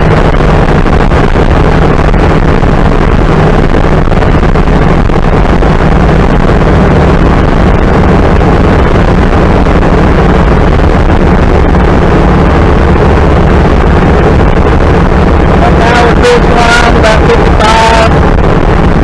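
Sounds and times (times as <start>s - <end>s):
car engine running: 0.0s - 19.0s
road and wind noise: 0.0s - 19.0s.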